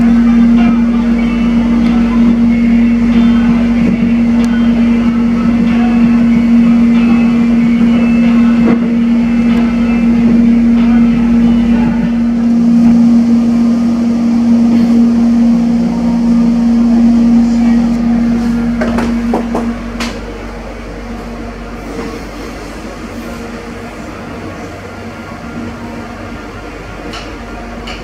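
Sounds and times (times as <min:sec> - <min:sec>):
steady electric hum: 0:00.0 - 0:28.0
train wheels rumbling on track: 0:00.0 - 0:28.0.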